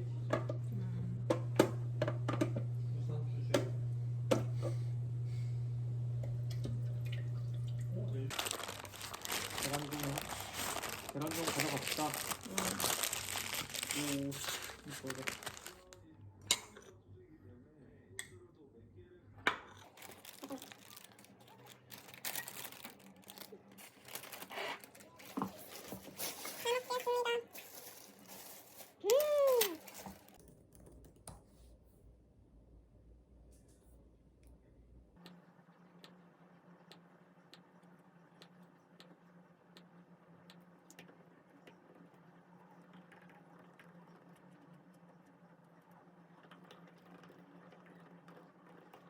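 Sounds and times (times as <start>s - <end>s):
low steady hum: 0.0s - 40.8s.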